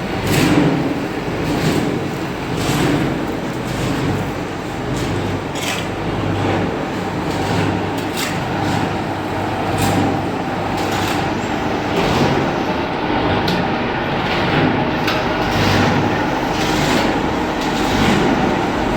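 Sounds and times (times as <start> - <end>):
furnace machinery rumbling: 0.0 - 18.9.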